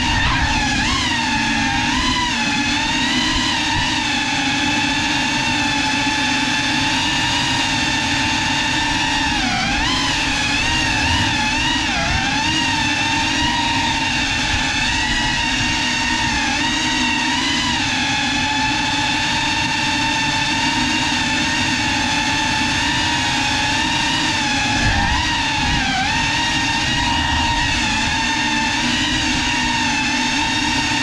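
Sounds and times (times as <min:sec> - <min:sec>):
drone propellers whining: 0:00.0 - 0:31.0.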